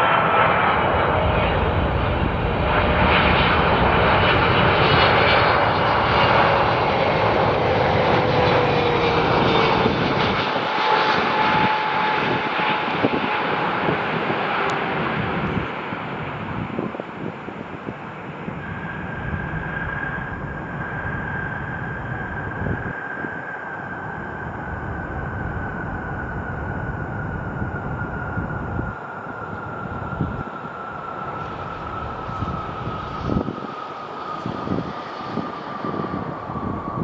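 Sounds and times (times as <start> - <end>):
jet airliner flying past: 0.0 - 37.0.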